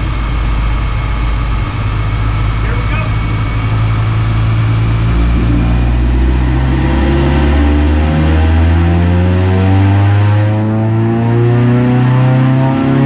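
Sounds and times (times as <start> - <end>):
car engine revving on a dyno: 0.0 - 13.0.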